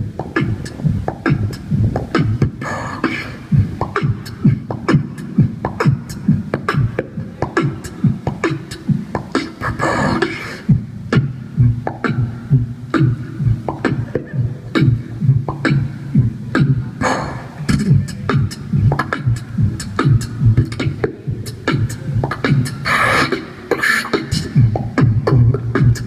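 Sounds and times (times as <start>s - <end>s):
beatboxing into a microphone: 0.0s - 26.0s.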